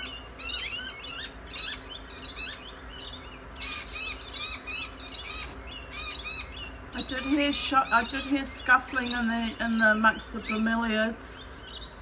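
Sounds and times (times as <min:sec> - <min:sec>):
birds giving harsh alarm calls: 0:00.0 - 0:12.0.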